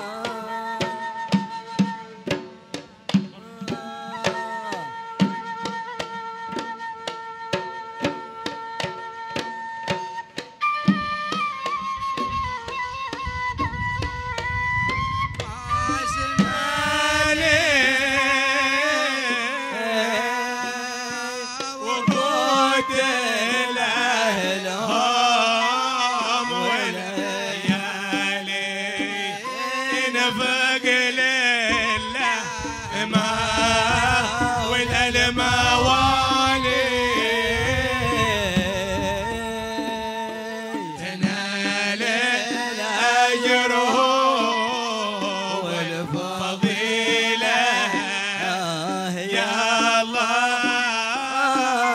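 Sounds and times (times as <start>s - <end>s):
man singing ornamented melody: 0.0s - 2.5s, 3.3s - 6.8s, 15.5s - 51.9s
hand drum strokes: 0.0s - 51.9s.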